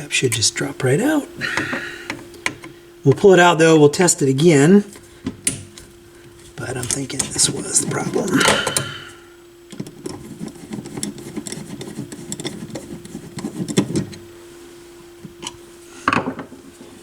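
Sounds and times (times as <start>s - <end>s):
desoldering pump with rattling clicks: 0.0s - 14.4s, 15.1s - 17.0s
steady low hum: 0.0s - 17.0s.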